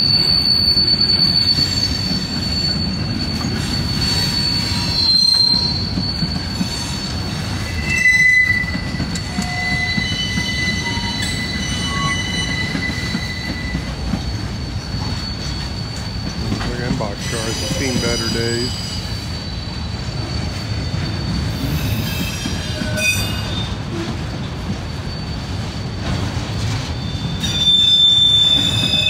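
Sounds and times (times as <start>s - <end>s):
rumble of rolling train cars: 0.0s - 29.0s
train wheels squealing on rail: 0.0s - 29.0s.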